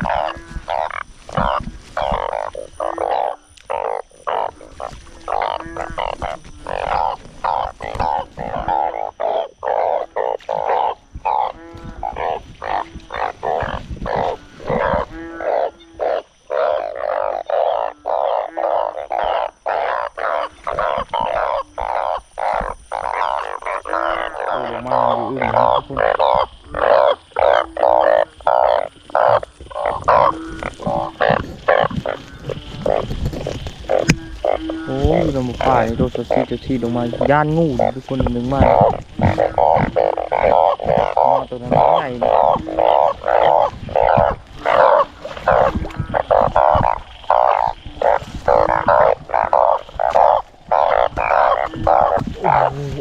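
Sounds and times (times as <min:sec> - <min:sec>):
chorus of frogs croaking: 0:00.0 - 0:53.0
deeper frog notes: 0:00.0 - 0:53.0.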